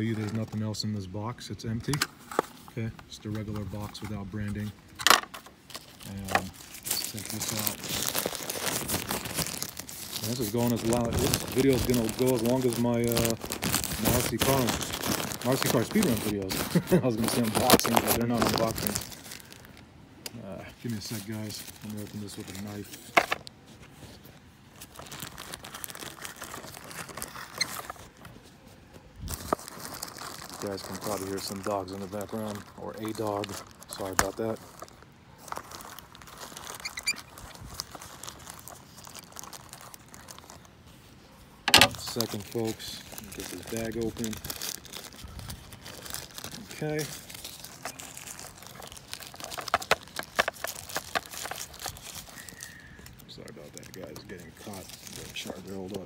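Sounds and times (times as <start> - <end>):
plastic packaging crinkling: 0.0 - 0.9, 1.7 - 19.8, 20.4 - 56.0.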